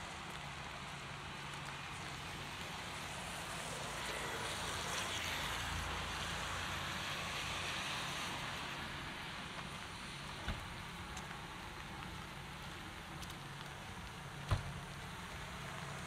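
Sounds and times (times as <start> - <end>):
heavy rain falling: 0.0 - 16.0
vehicle tyres hissing on wet road: 0.0 - 16.0.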